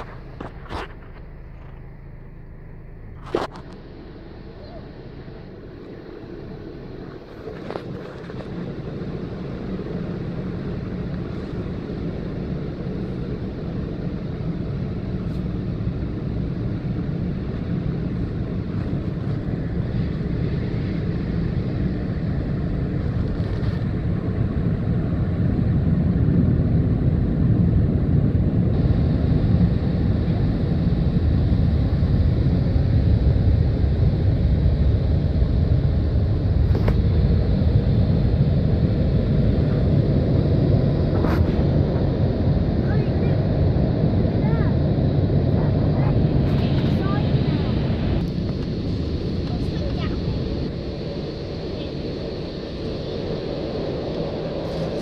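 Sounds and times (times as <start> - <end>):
muffled car wash rumble: 0.0 - 55.0.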